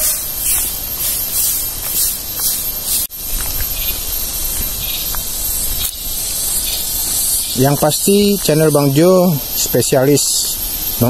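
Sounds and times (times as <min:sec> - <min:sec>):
cicadas chorusing: 0:00.0 - 0:11.0.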